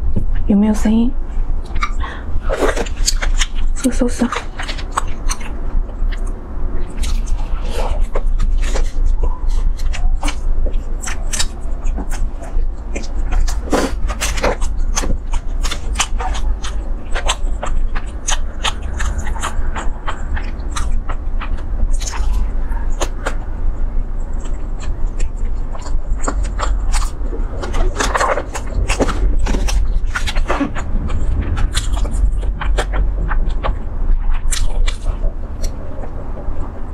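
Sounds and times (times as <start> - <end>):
steady low hum: 0.0 - 36.9
close chewing with lip smacks: 0.1 - 36.8.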